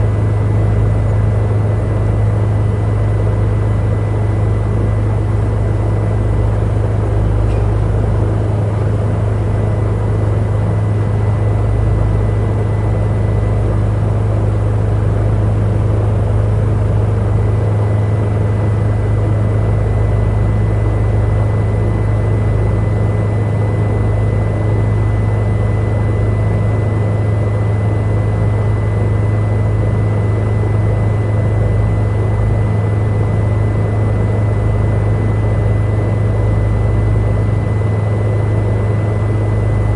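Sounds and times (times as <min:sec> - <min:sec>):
helicopter engine and rotor drone: 0:00.0 - 0:39.9
thin steady whine: 0:00.0 - 0:39.9.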